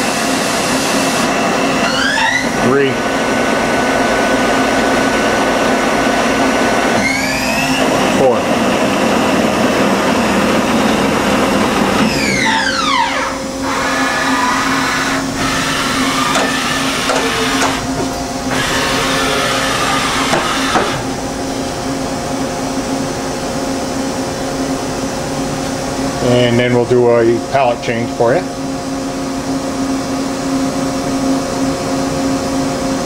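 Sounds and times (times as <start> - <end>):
spindle whine: 0.0 - 32.7
machine whirs: 0.0 - 33.0
steady hum: 0.0 - 33.0.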